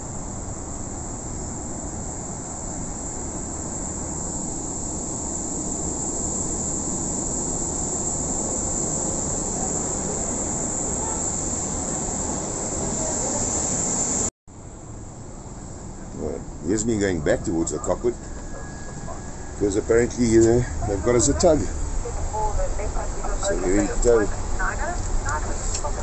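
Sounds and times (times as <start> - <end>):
air conditioning rush: 0.0 - 26.0
high whine of aircraft systems: 0.0 - 26.0.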